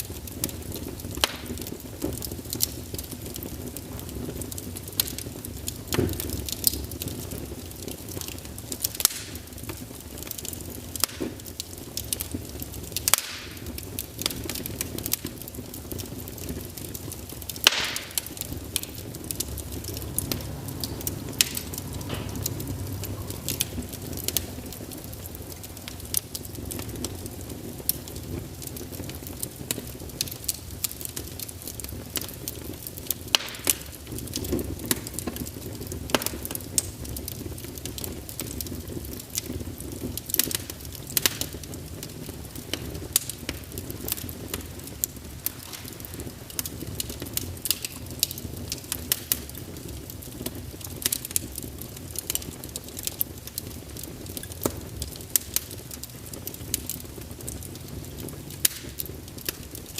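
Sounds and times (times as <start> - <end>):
fire crackling and popping: 0.0 - 59.9
firewood burning in fireplace: 0.0 - 59.9.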